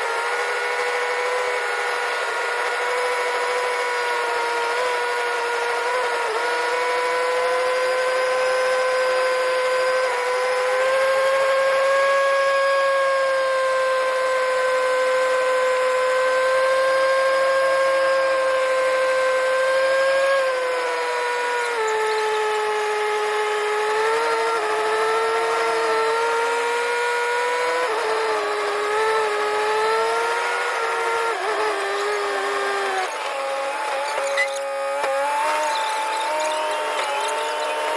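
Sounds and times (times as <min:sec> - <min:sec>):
machine high-pitched whine: 0:00.0 - 0:37.9.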